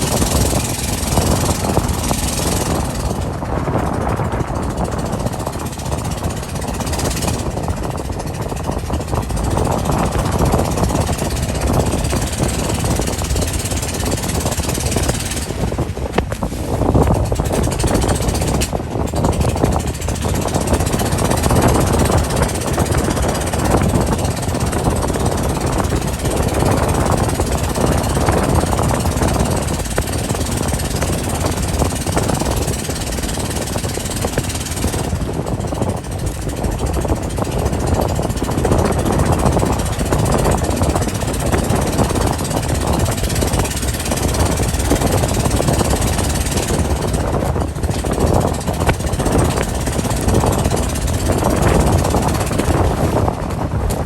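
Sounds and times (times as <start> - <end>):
motorboat engine and water: 0.0 - 54.0.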